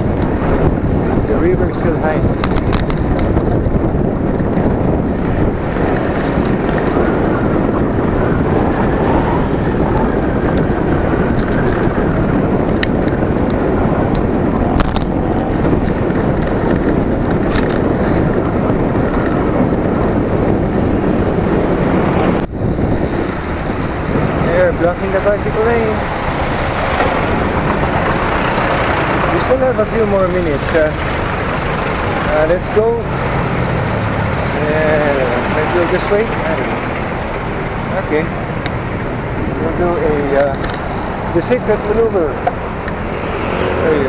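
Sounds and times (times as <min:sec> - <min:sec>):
road traffic rumbling: 0:00.0 - 0:44.0
wind rushing over microphone: 0:00.0 - 0:44.0.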